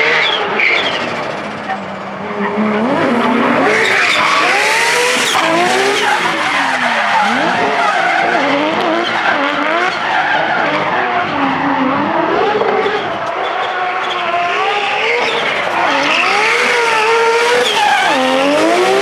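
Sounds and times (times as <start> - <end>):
car engine revving: 0.0 - 19.0
tyres skidding: 0.0 - 19.0.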